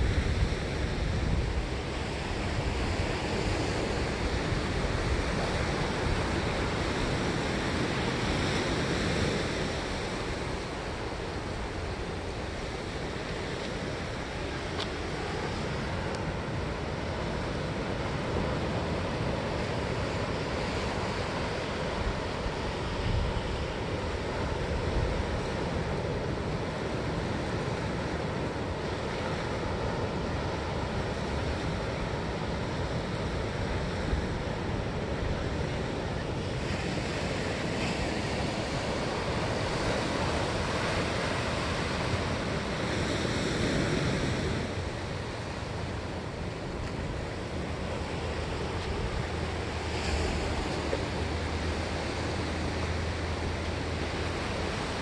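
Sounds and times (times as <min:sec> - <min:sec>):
ocean surf breaking on shore: 0:00.0 - 0:55.0.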